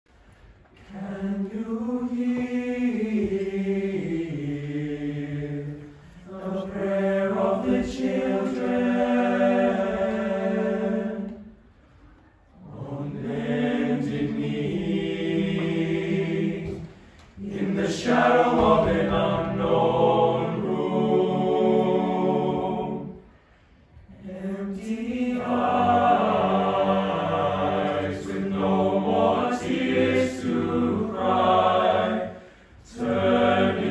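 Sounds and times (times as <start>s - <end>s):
boys choir singing in harmony: 0.7s - 33.9s.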